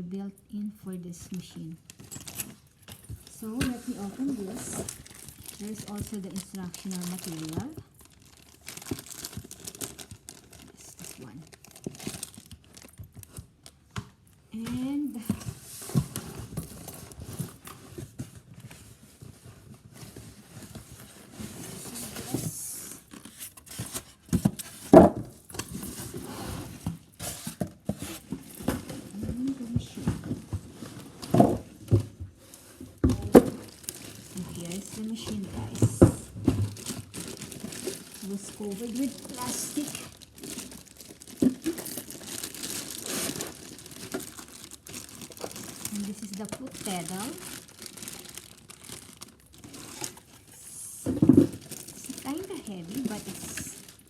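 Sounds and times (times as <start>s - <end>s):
plastic wrapping rustling: 1.3s - 54.0s.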